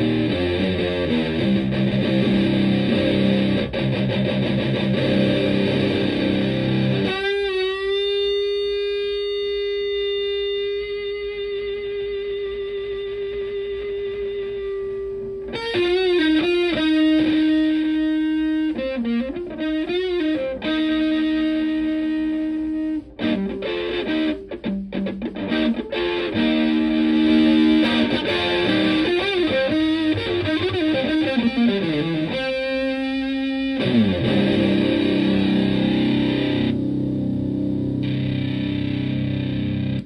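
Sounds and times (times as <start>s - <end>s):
fuzz electric guitar notes: 0.0s - 40.0s.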